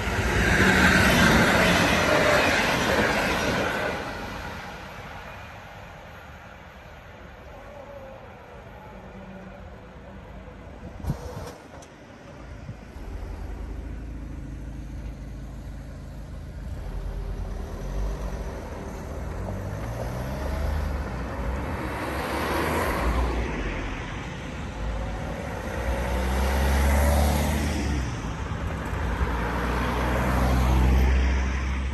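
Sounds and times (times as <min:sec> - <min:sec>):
cars passing over crossing: 0:00.0 - 0:07.5, 0:08.5 - 0:31.9.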